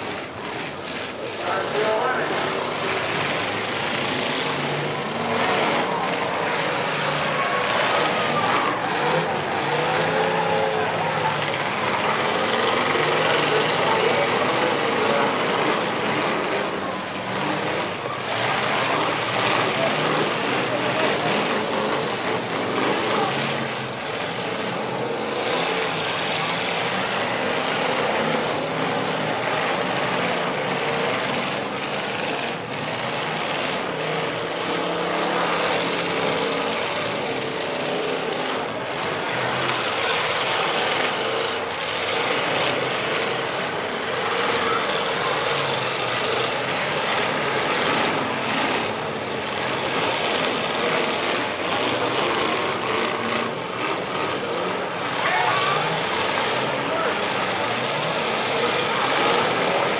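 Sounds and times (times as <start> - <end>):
car engines running loudly: 0.0 - 59.9.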